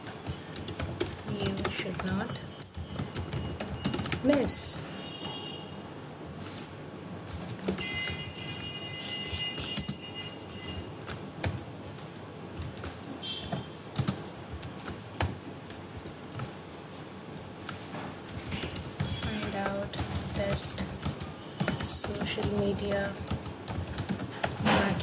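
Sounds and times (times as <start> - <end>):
keyboard keys clicking: 0.0 - 4.6, 7.3 - 8.6, 9.3 - 16.5, 17.6 - 25.0.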